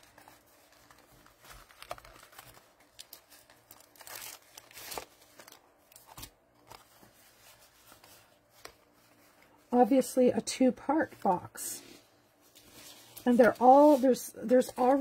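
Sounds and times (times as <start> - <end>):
packaging crinkling and rustling: 0.0 - 9.8, 12.3 - 15.0.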